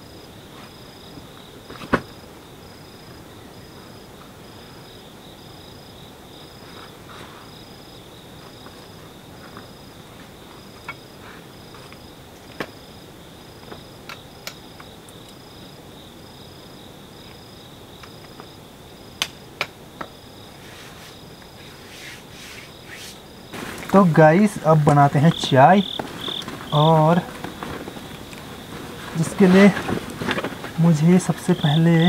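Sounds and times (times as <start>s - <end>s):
high pulsing insect call: 0.0s - 32.0s
insects chirping: 0.0s - 32.0s.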